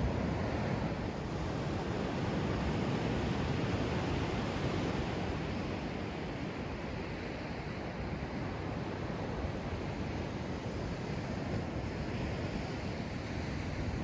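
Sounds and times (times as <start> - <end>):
sea surf rushing: 0.0 - 14.0
wind rumble on microphone: 0.0 - 14.0.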